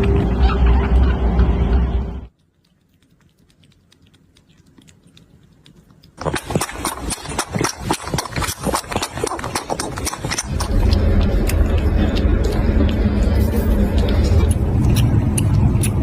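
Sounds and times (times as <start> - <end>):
kitten drinking milk clicking: 2.3 - 16.0.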